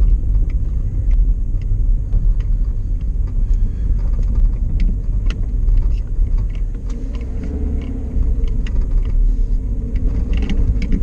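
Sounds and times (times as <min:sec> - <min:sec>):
car driving rumble: 0:00.0 - 0:11.0
small clicks and rattles: 0:00.0 - 0:11.0.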